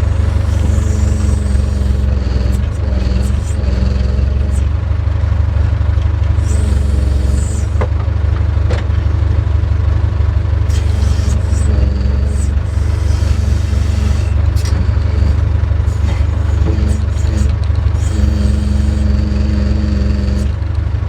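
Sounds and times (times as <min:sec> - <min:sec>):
diesel engine under load: 0:00.0 - 0:21.0
hydraulic whine: 0:00.0 - 0:21.0.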